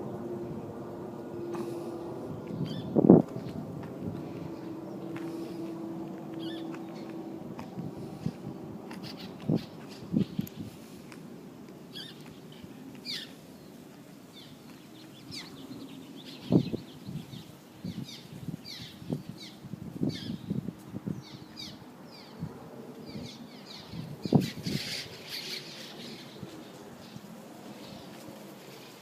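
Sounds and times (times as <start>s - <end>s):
small birds chirping: 1.6s - 10.8s, 11.9s - 28.9s.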